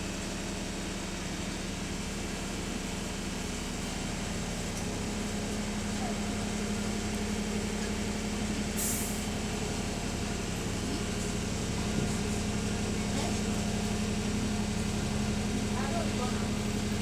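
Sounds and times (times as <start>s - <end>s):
diesel bus engine droning: 0.0s - 17.0s.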